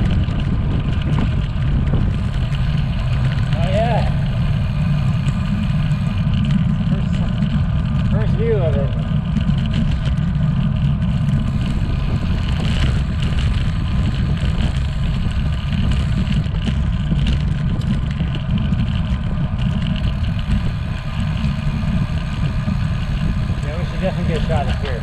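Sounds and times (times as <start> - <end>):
bicycle road noise: 0.0 - 25.0
wind buffeting microphone: 0.0 - 25.0.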